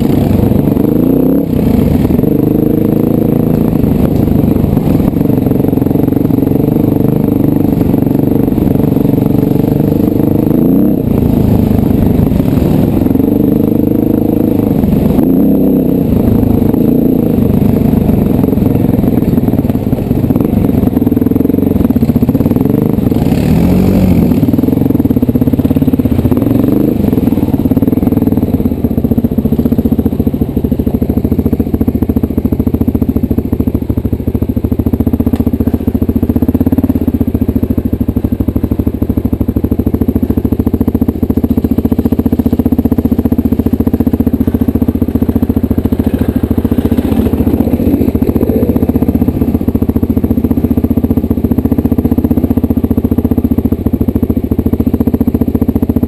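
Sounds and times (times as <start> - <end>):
off-road vehicle engine revving: 0.0 - 56.0
vehicle rattling: 0.0 - 56.0.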